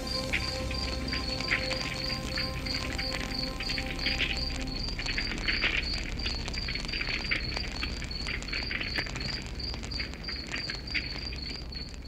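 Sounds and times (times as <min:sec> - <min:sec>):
campfire crackling: 0:00.0 - 0:12.0
cricket chirping: 0:00.0 - 0:12.0.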